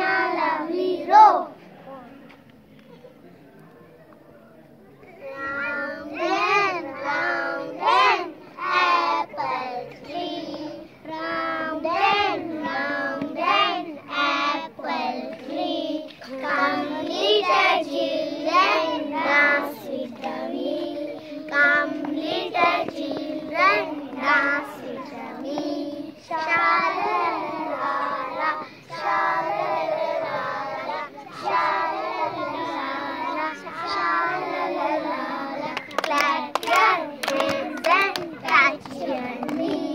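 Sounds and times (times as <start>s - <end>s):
children singing together: 0.0s - 1.6s, 5.2s - 39.9s.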